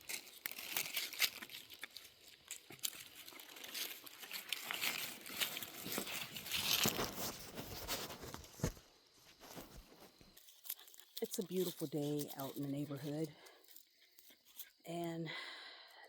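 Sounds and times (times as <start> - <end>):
dry twigs and leaves crackling: 0.0 - 15.1.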